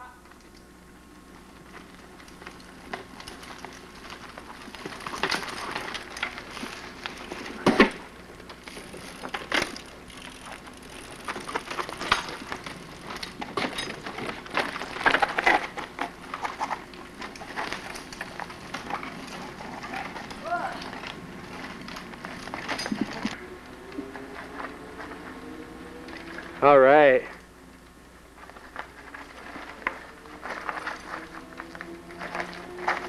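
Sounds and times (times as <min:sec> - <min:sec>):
bikes knocking and clanking: 0:00.0 - 0:33.0
tyres crunching over stones: 0:01.4 - 0:23.4, 0:28.3 - 0:33.0.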